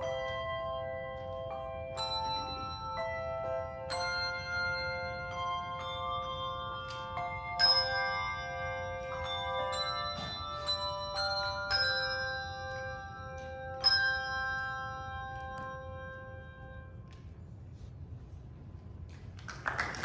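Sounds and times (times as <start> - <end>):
bells ringing a tune: 0.0 - 18.4.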